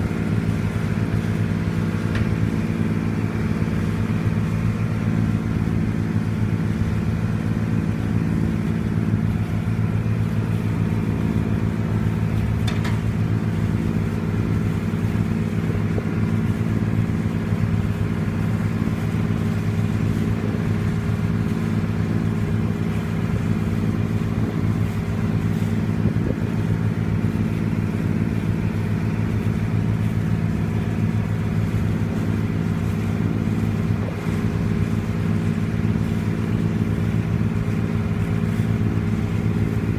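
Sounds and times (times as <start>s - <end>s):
ferry engine droning: 0.0s - 39.9s.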